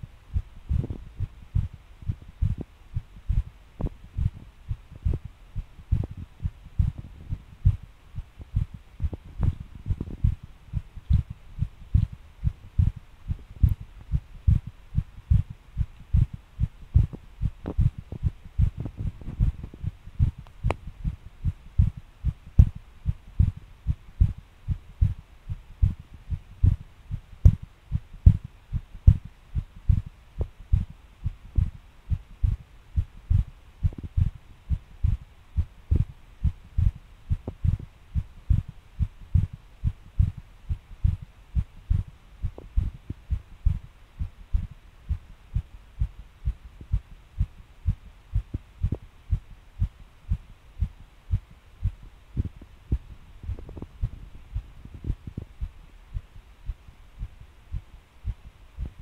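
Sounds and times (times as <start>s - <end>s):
heartbeat thumping: 0.0s - 59.0s.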